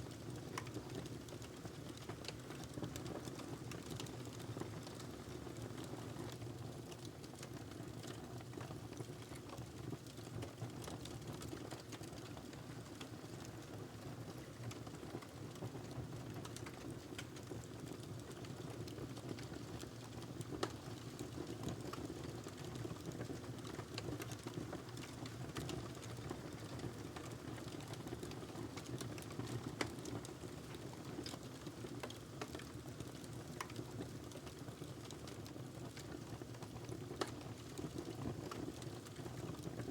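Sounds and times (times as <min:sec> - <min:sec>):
wood fire rumble and hiss: 0:00.0 - 0:39.9
fire crackling and popping: 0:00.1 - 0:39.9.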